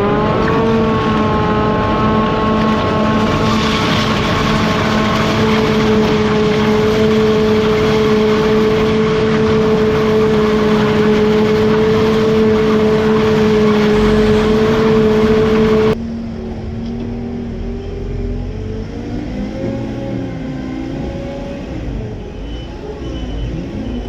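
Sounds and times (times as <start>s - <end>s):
diesel engine running at high revs: 0.0s - 24.0s.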